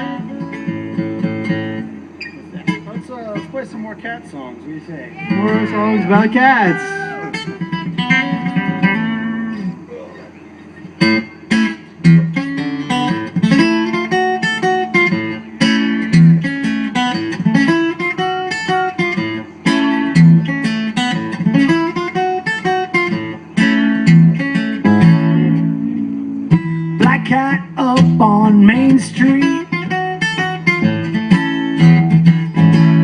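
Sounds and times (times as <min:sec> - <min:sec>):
acoustic guitar picking: 0:00.0 - 0:33.0.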